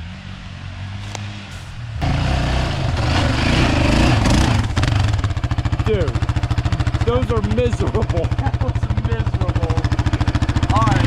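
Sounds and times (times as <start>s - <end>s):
off-road vehicle engine: 0.0s - 11.0s.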